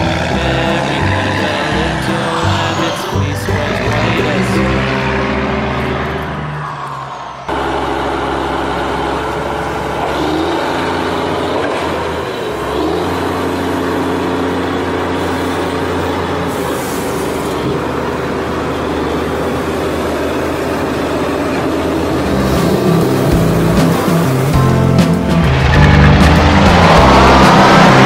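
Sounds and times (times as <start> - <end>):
heavy truck engine running: 0.0 - 28.0.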